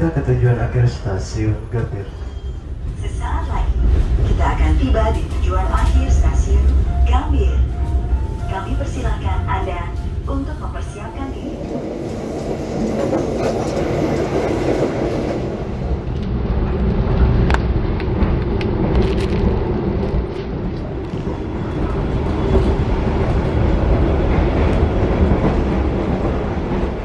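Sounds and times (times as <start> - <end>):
train rumble with wheel clatter: 0.0 - 27.0.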